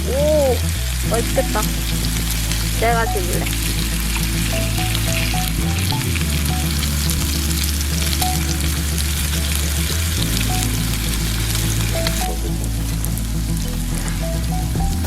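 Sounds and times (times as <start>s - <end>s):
pork sizzling on a grill: 0.0s - 15.0s.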